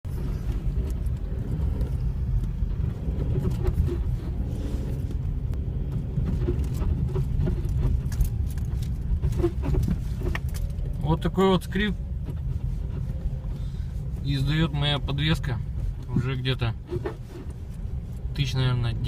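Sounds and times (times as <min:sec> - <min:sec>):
car driving rumble: 0:00.0 - 0:19.0
car suspension squeaking: 0:00.1 - 0:19.0.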